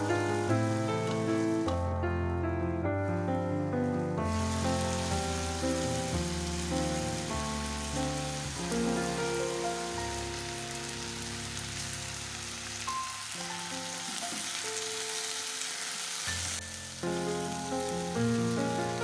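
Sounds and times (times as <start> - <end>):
chicken sizzling in a pan: 0.0 - 1.9, 3.0 - 19.0
soft background music: 0.0 - 19.0.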